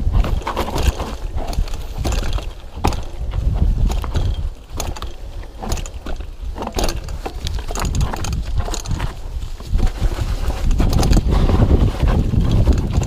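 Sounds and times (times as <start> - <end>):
bike frame and chain rattling: 0.0 - 13.0
wind rumble on microphone: 0.0 - 13.0.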